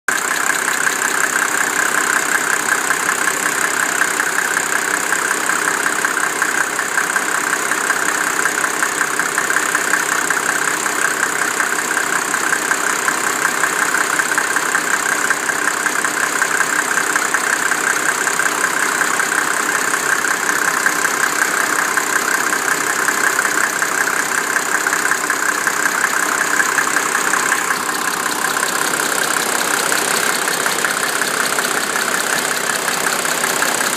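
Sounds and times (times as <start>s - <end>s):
diesel engine idling: 0.1s - 33.9s
engine ticking: 0.1s - 33.9s.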